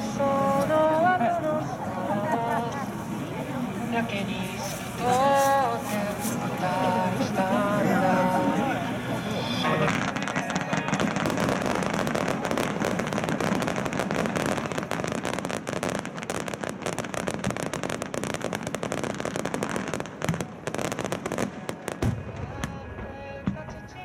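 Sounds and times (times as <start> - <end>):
fireworks bangs and crackles: 2.3 - 24.0.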